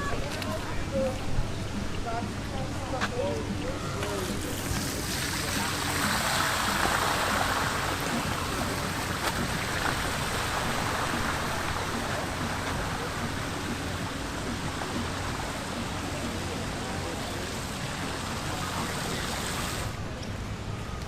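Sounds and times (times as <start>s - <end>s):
rushing water: 0.0s - 21.0s.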